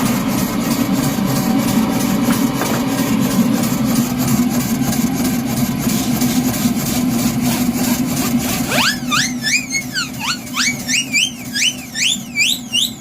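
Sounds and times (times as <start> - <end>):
steam engine exhaust beats: 0.0 - 13.0.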